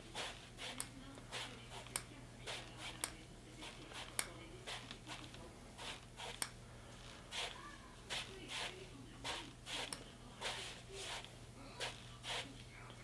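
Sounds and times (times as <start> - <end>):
leg swishing against band: 0.0 - 6.4, 7.3 - 12.5.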